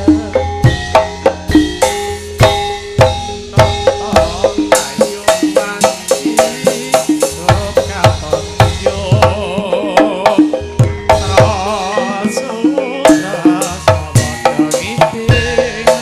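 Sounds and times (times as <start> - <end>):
person singing with vibrato: 0.0 - 2.4, 3.0 - 16.0
hand drums beating: 0.0 - 16.0
struck metal keyed notes: 0.0 - 16.0.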